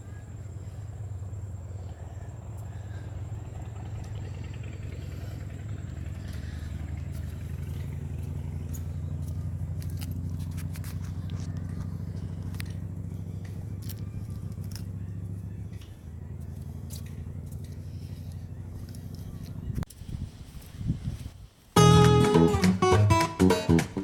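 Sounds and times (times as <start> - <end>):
low engine-like drone: 0.0 - 19.9, 21.8 - 24.0.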